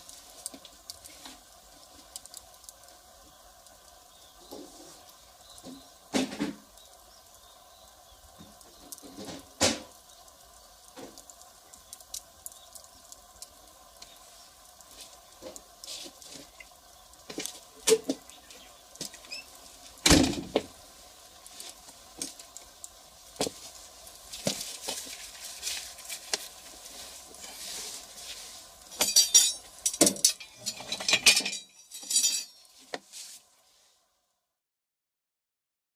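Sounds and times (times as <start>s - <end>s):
firewood fire crackling: 0.0s - 34.5s.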